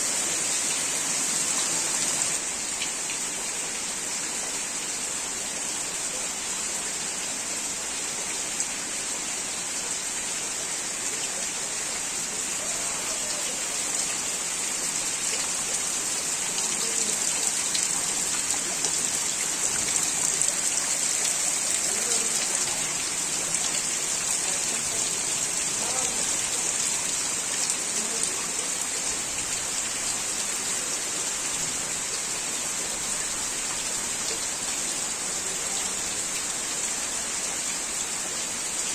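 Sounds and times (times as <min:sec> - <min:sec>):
torrential rain on water and concrete: 0:00.0 - 0:38.9.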